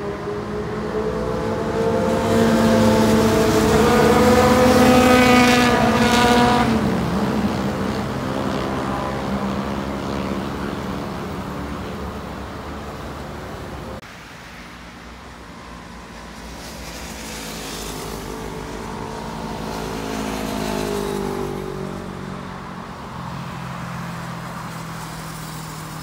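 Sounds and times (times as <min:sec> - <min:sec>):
motorcycle passing at high revs: 0:00.0 - 0:14.0, 0:15.5 - 0:26.0.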